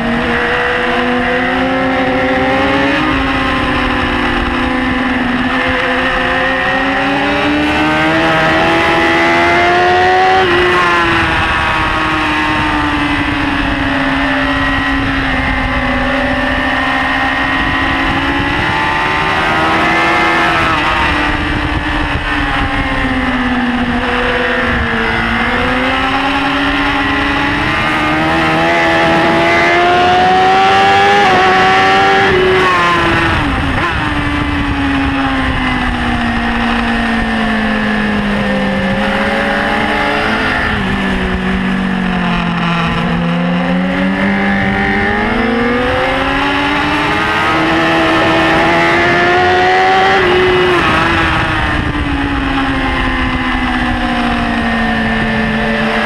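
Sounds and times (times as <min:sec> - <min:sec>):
motorcycle engine revving hard: 0:00.0 - 0:56.0.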